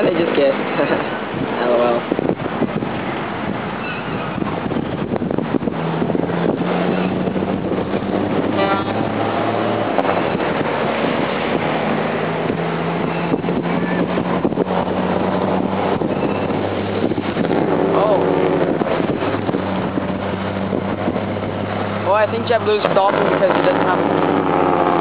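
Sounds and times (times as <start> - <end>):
low engine drone: 0.0 - 25.0
wind buffeting microphone: 0.0 - 25.0.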